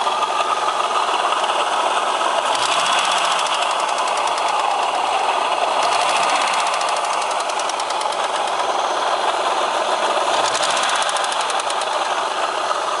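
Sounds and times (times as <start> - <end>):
car engine running: 0.0 - 13.0
fast metallic engine knock: 0.0 - 13.0.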